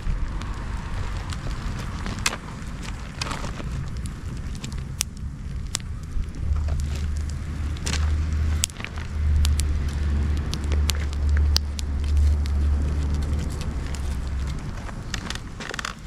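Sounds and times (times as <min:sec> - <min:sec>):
bonfire crackling and popping: 0:00.0 - 0:16.0
low rumble: 0:00.0 - 0:16.0.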